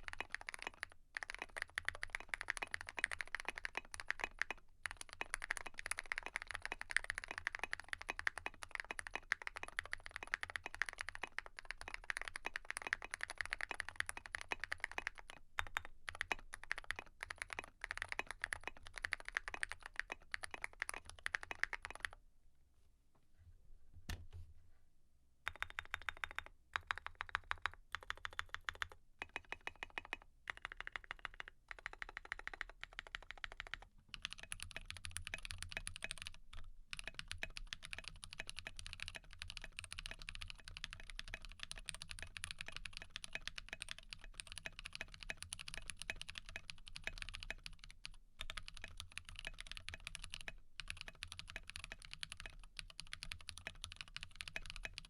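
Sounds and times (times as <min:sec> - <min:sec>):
mechanical keyboard typing: 0:00.0 - 0:22.2, 0:25.5 - 0:55.0.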